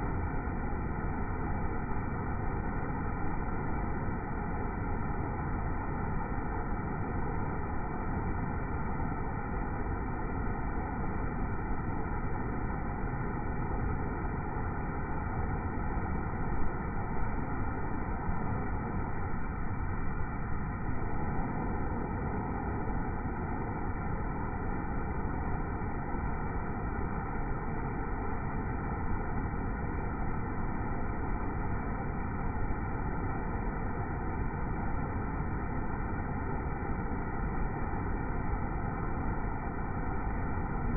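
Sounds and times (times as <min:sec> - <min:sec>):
deep muffled waterfall rushing: 0:00.0 - 0:40.9.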